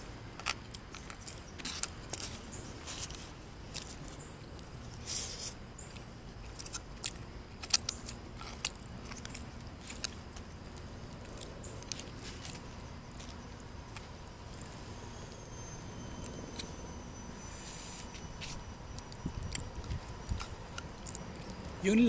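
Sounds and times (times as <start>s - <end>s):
person chewing food: 0.0s - 21.9s
rustle: 0.0s - 22.0s.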